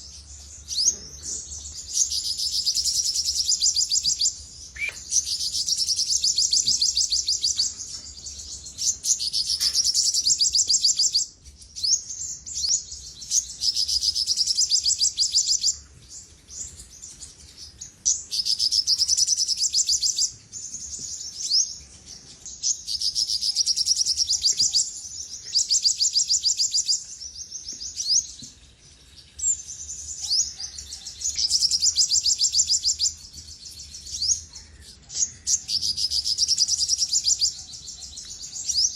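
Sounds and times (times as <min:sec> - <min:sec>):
sunbird singing trilled phrases: 0:00.0 - 0:38.9.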